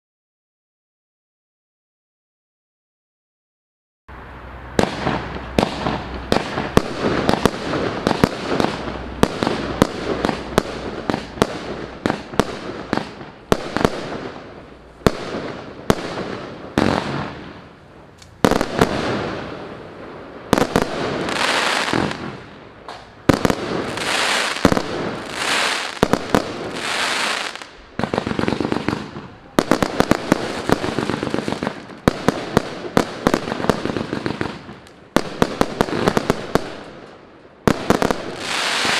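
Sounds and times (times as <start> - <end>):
firework cake firing bursts: 4.8 - 19.9, 20.5 - 37.0.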